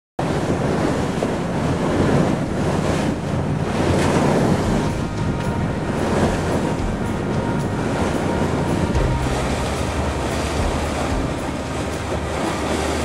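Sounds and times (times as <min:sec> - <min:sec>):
sea water rushing along hull: 0:00.2 - 0:13.0
wind buffeting microphone: 0:00.2 - 0:13.0.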